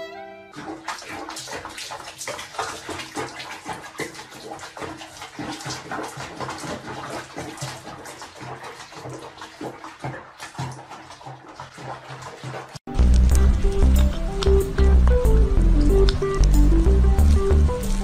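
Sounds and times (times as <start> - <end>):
water splashing in a basin: 0.5 - 18.0.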